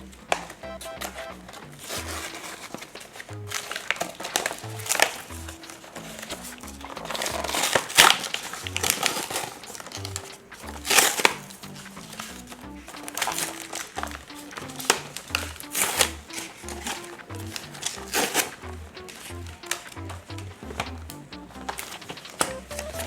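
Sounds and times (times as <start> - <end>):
background music with stepping melody: 0.0 - 23.0
plastic packaging crinkling: 1.8 - 20.9.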